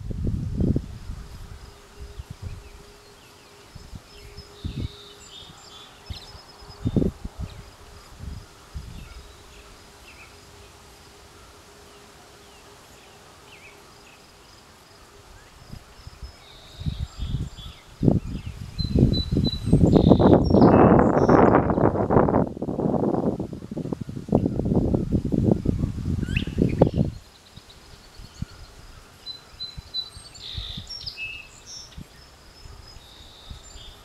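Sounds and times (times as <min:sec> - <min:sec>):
faint steady buzz: 0:00.0 - 0:34.0.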